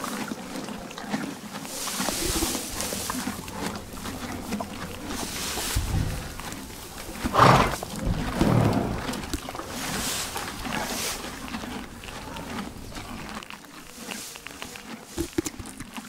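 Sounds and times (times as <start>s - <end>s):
horses chewing hay: 0.0s - 16.0s
horse snorting: 1.0s - 16.0s.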